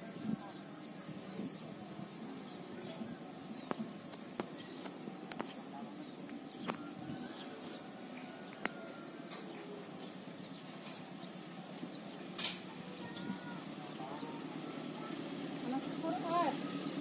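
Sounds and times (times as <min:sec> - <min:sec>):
birds chirping: 0:00.0 - 0:17.0
low steady murmur: 0:00.0 - 0:17.0.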